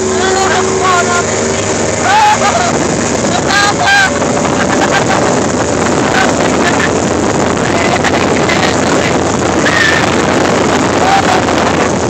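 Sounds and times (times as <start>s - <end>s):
motorboat running noise: 0.0s - 12.0s
wind rushing over microphone: 0.0s - 12.0s.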